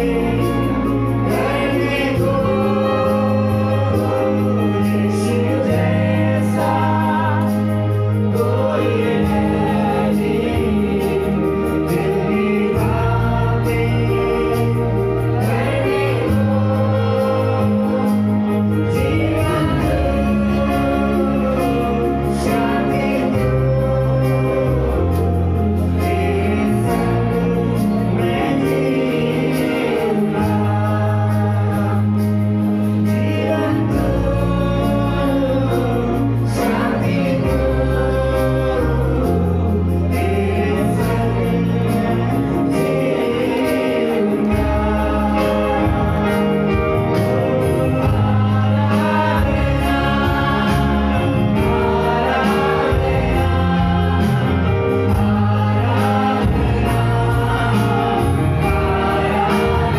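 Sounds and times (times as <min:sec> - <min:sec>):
choir singing worship song: 0:00.0 - 0:59.9
keyboard sustained low chords: 0:00.0 - 0:59.9.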